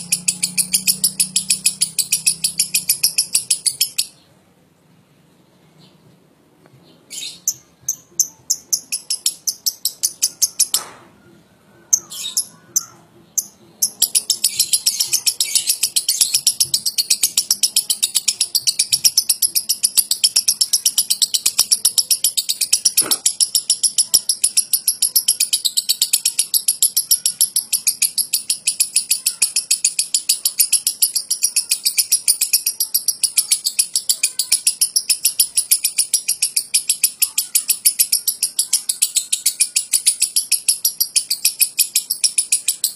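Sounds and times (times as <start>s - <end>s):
lovebird chattering chirps: 0.0s - 4.2s, 7.1s - 11.0s, 11.9s - 42.9s.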